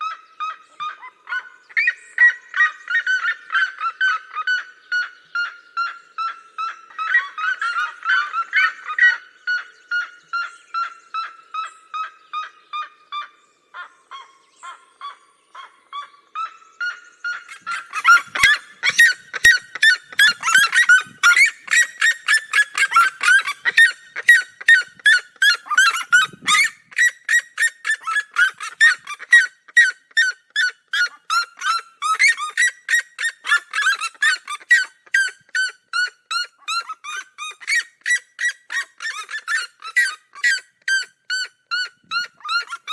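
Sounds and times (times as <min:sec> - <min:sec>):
birds calling in rapid notes: 0:00.0 - 0:42.9.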